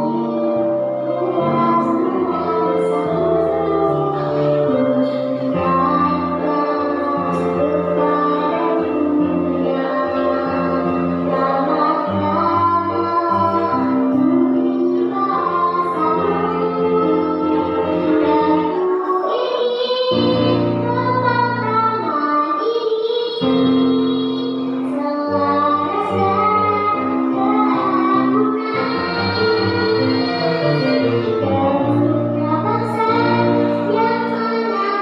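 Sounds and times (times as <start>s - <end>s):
backing music with held chords: 0.0s - 19.2s, 23.5s - 35.0s
girl singing into microphone: 0.0s - 35.0s.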